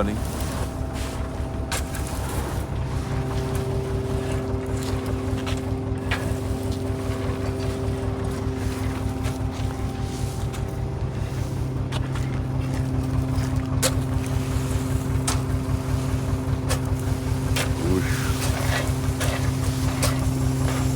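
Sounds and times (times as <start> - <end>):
heavy machinery running: 0.0 - 20.9.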